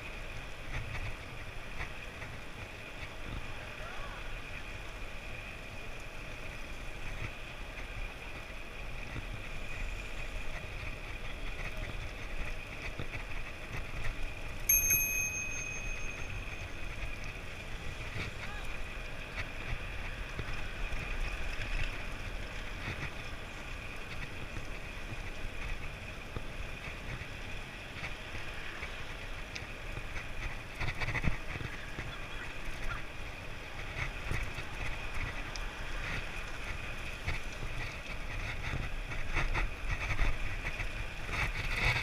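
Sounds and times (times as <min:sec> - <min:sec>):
bicycle road noise: 0:00.0 - 0:42.0.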